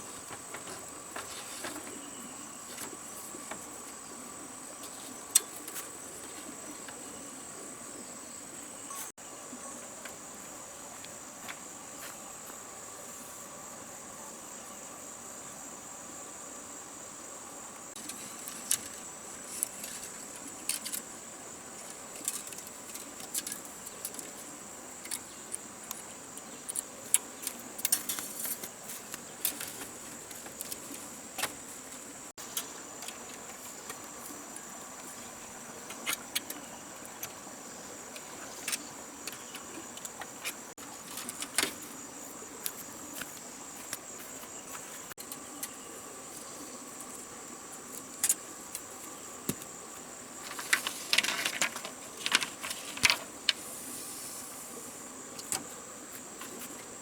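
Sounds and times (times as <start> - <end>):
faint steady tone: 0.0 - 57.0
insects droning: 0.0 - 57.0.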